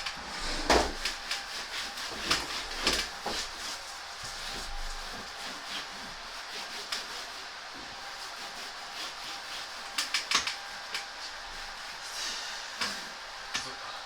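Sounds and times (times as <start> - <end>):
cloth rubbing a wall: 0.0 - 13.5.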